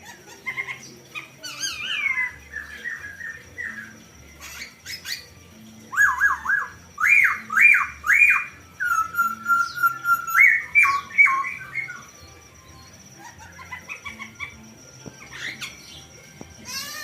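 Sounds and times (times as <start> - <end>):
bird whistled song: 0.0 - 17.0
faint steady high tone: 0.5 - 17.0.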